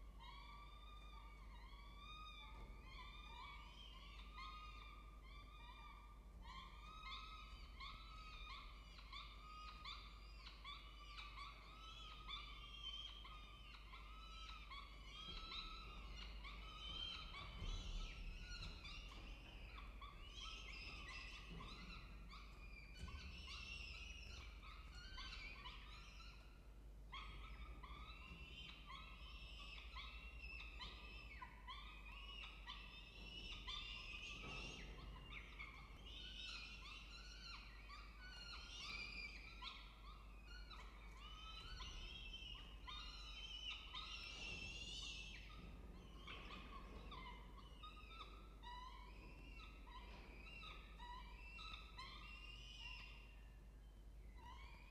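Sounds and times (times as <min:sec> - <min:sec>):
falcon chicks chirping: 0:00.0 - 0:54.9.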